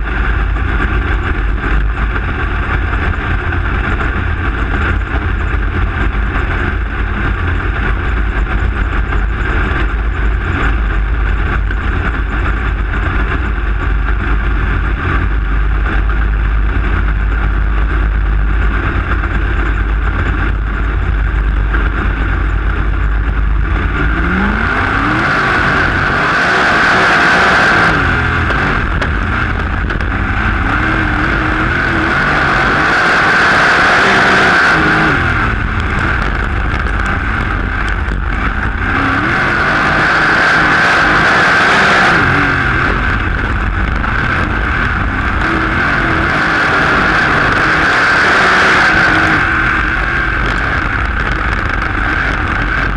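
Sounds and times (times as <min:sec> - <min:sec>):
race car engine rumbling and revving: 0:00.0 - 0:52.9
rushing noise: 0:00.0 - 0:52.9.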